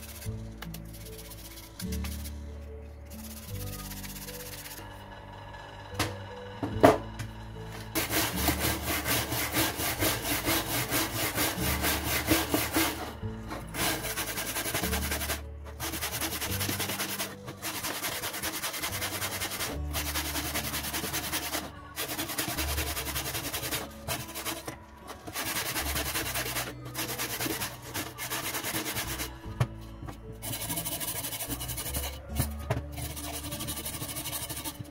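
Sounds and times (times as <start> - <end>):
wire brush scrubbing metal: 0.0 - 2.4, 3.2 - 4.9, 8.0 - 29.4, 30.4 - 34.9.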